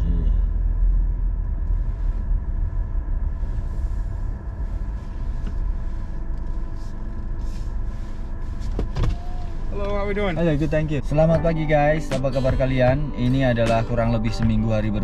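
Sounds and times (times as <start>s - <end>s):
car cabin low rumble: 0.0s - 15.0s
faint steady hum: 0.0s - 15.0s.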